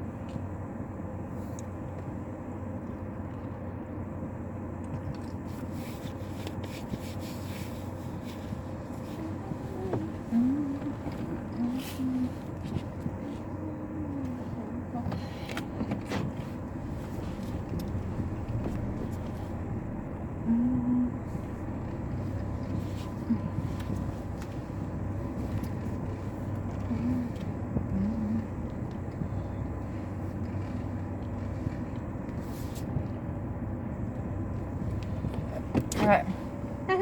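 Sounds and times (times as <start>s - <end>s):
truck engine rumbling: 0.0s - 37.0s.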